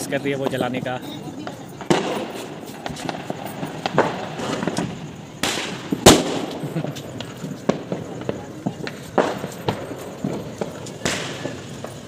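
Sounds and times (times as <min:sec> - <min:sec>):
firecrackers bursting: 0:00.0 - 0:12.0.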